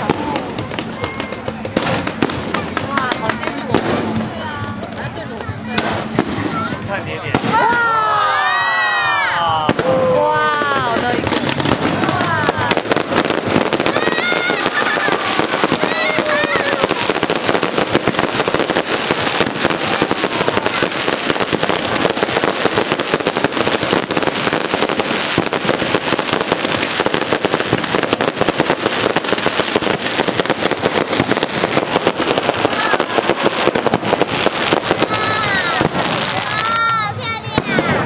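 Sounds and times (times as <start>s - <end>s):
fireworks crackling: 0.0s - 38.0s.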